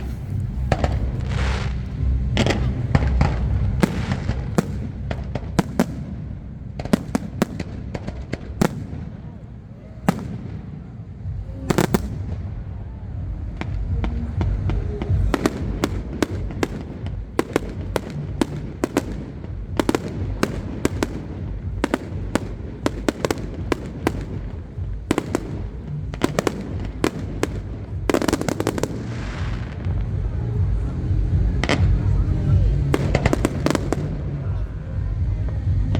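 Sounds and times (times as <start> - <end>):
continuous low rumble: 0.0 - 35.9
fireworks bangs and cracks: 0.0 - 35.9
fireworks crackling: 0.0 - 35.9.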